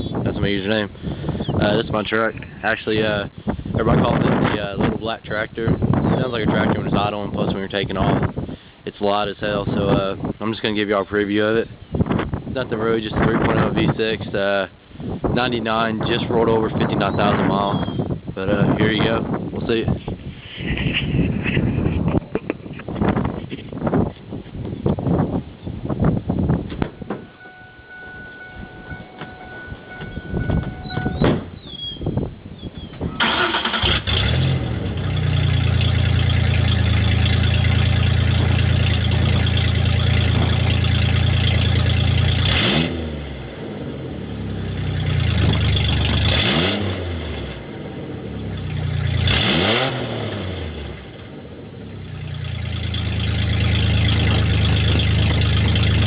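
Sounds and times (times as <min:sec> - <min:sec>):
truck engine idling and revving: 0:00.0 - 0:56.0.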